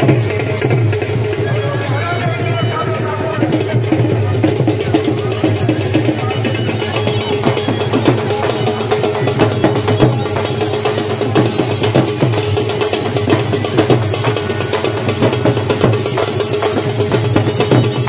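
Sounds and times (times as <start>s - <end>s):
fast barrel drumming: 0.0s - 18.0s.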